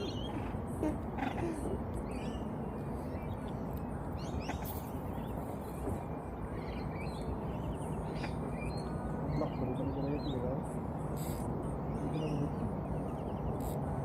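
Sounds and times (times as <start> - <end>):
low background rush: 0.0 - 14.0
small birds chirping: 0.0 - 14.0.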